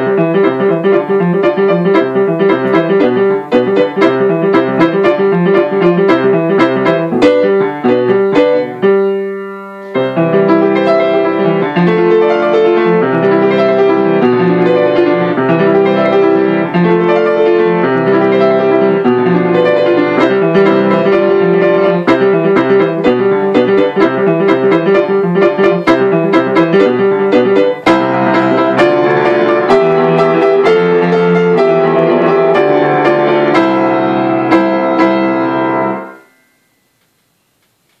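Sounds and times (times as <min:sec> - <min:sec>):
solo grand piano: 0:00.0 - 0:37.0.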